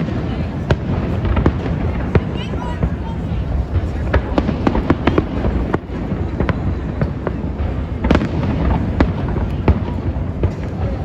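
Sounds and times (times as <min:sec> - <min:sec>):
fireworks bangs and cracks: 0:00.0 - 0:11.0.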